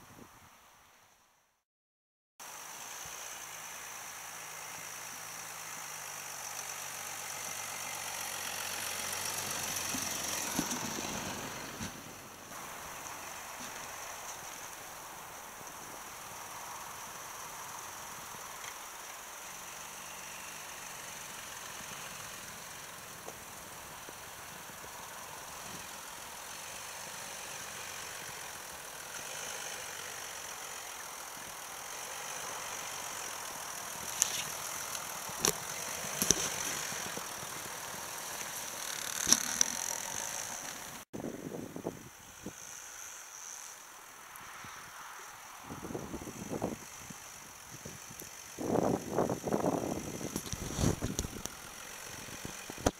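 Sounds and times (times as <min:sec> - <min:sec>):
diesel car engine running: 0:02.4 - 0:44.2, 0:45.2 - 0:52.9.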